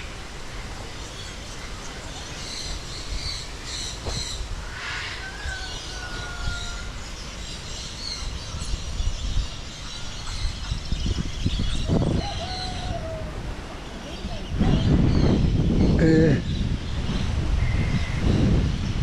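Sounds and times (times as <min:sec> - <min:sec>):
long falling bird call: 0:00.0 - 0:16.8
small birds chirping: 0:00.0 - 0:19.0.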